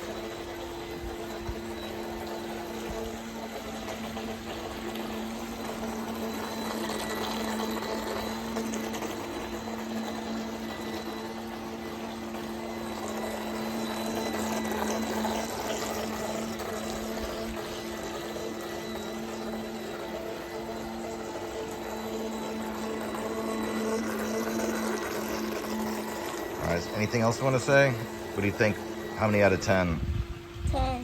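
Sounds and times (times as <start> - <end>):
water noise: 0.0 - 30.8
boat motor hum: 0.0 - 31.0.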